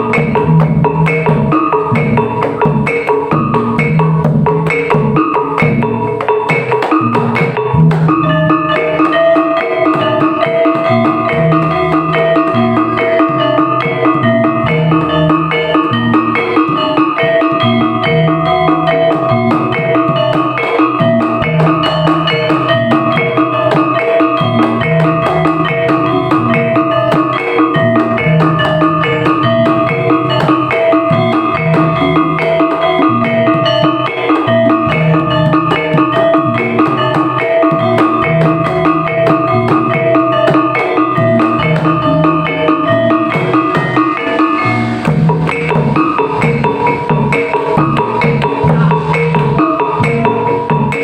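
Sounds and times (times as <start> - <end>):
drums playing rhythm: 0.0 - 51.0
ringing tuned metal percussion: 0.0 - 51.0.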